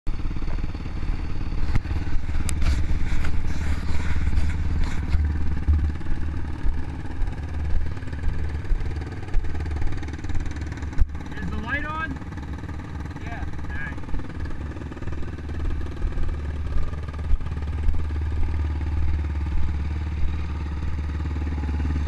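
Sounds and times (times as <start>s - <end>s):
atv engine idling: 0.1s - 22.0s.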